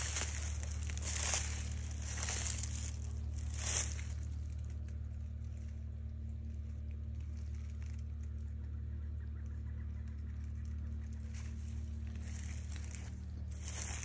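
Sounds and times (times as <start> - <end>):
crinkling rustles: 0.0 - 8.4, 10.7 - 14.0
steady low hum: 0.0 - 14.0.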